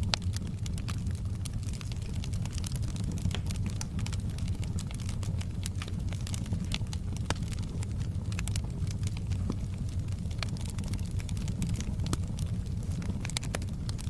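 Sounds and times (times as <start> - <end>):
burning logs crackling and popping: 0.0 - 14.0
low rumble of flames: 0.0 - 14.0.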